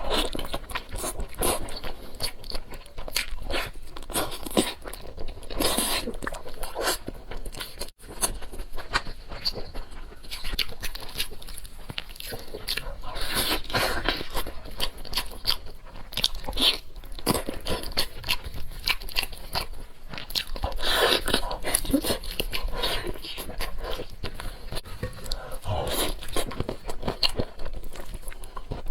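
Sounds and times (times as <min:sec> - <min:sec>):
person chewing crunchy food: 0:00.0 - 0:28.9.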